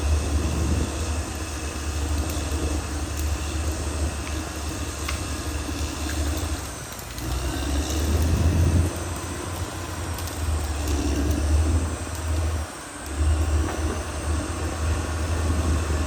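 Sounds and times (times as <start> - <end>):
bulldozer diesel engine rumble: 0.0 - 16.0.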